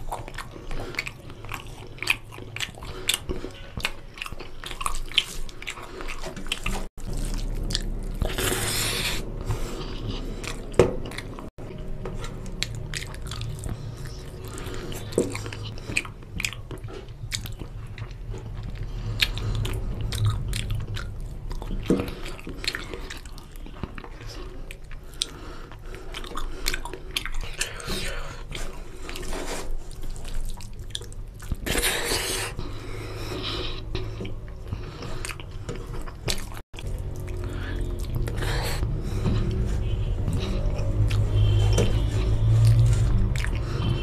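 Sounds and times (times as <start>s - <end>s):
wet chewing and lip-smacking: 0.0s - 44.0s.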